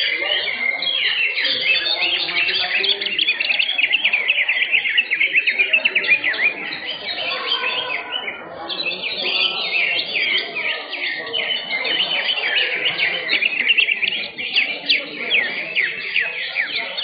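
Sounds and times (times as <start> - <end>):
chorus of birds singing: 0.0 - 17.0.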